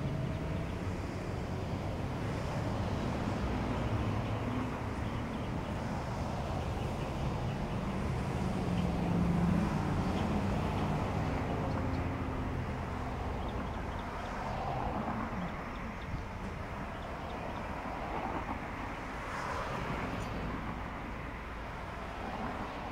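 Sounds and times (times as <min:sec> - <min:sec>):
vehicle rumbling: 0:00.0 - 0:22.9.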